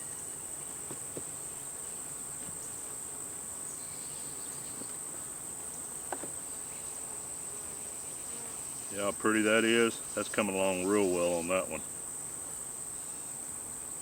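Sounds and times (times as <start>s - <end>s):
bees buzzing around a hive: 0.0s - 14.0s.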